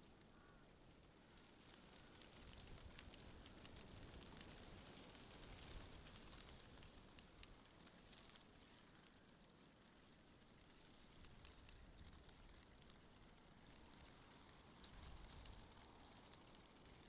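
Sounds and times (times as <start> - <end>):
wind rustling through trees: 0.0 - 17.0
light crackling ticks: 0.1 - 17.0.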